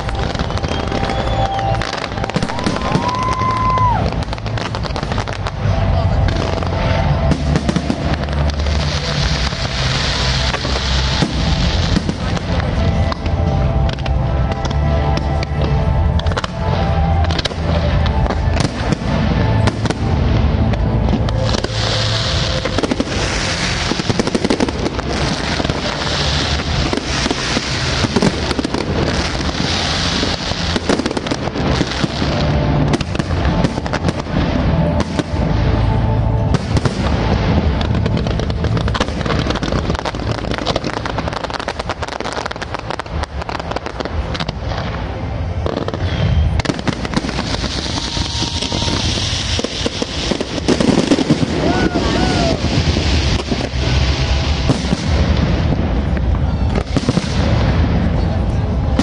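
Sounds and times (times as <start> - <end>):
firework bangs: 0.0 - 59.0
firework crackling: 0.0 - 59.0.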